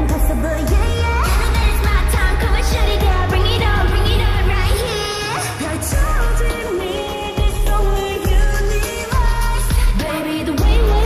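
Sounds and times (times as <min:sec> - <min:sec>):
heavy bass beat: 0:00.0 - 0:05.0, 0:05.8 - 0:11.0
female group singing pop song: 0:00.0 - 0:11.0.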